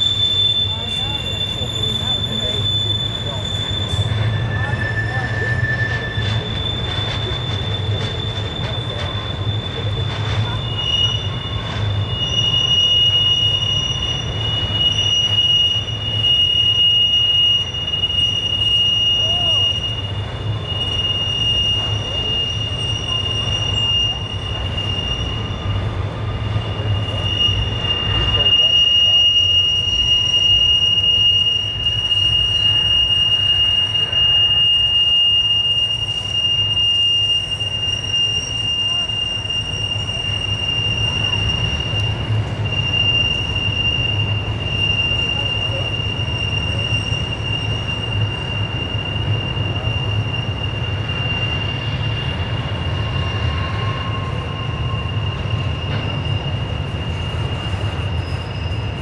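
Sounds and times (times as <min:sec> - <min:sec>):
train cars rolling rumble: 0:00.0 - 0:59.0
wheel flanges squealing on rail: 0:00.0 - 0:59.0.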